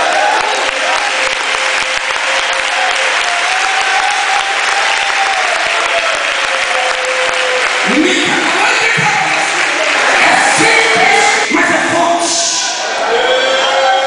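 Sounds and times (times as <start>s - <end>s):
congregation applauding: 0.0s - 14.0s.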